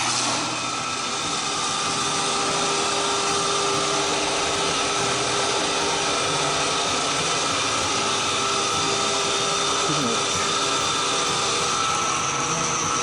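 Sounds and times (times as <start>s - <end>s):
electric hoist motor whining: 0.0s - 13.0s.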